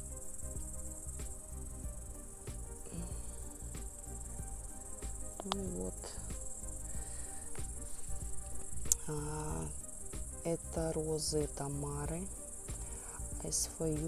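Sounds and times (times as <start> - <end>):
insects chirring: 0.0 - 14.0
low rumble: 0.0 - 14.0.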